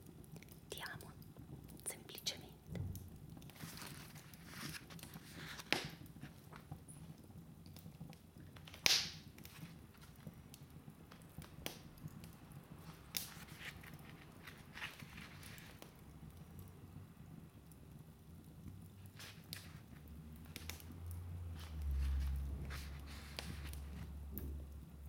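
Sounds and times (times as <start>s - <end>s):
logs crackling and popping in fire: 0.0s - 1.9s, 2.6s - 25.0s.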